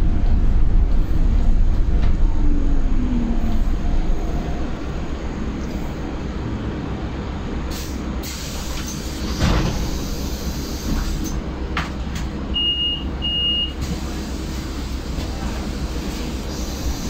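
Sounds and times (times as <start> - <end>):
bus ride rumble: 0.0 - 17.0.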